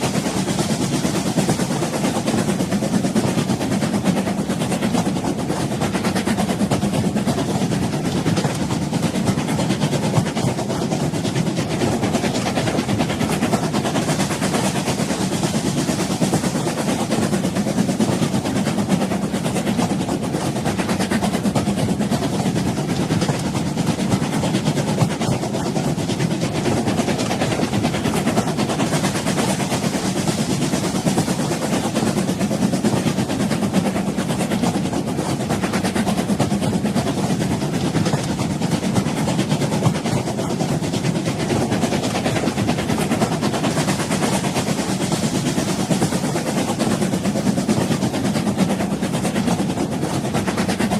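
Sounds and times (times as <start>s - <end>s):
train running on rails: 0.0s - 50.9s.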